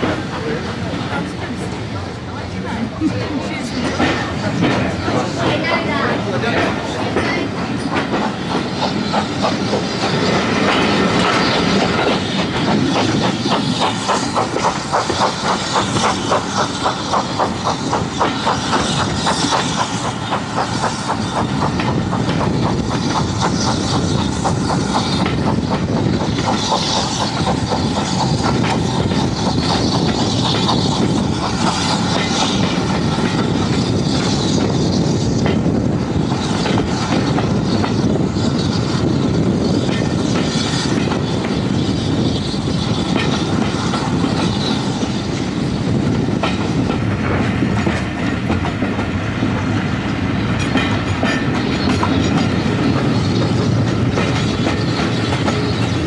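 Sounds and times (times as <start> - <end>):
fast even rail beat: 0.0 - 56.0
train coaches rumbling on track: 0.0 - 56.0.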